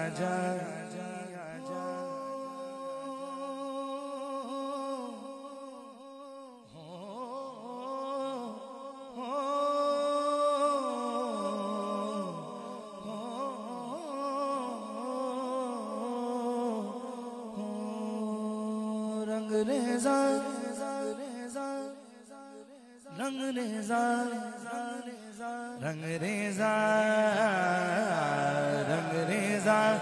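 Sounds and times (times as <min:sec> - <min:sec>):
man humming into a microphone: 0:00.0 - 0:30.0.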